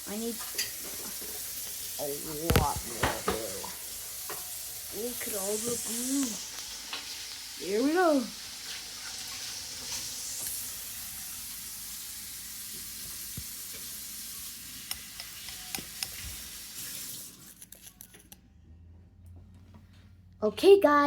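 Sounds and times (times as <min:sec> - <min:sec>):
steady sizzling hiss: 0:00.0 - 0:18.0.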